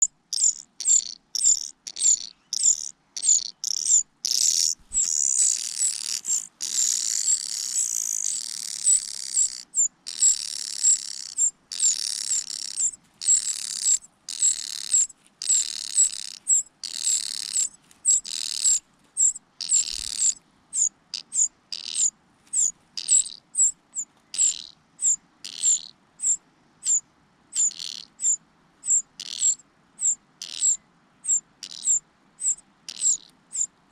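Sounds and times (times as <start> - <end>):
nestling birds high peeps: 0.0 - 33.8.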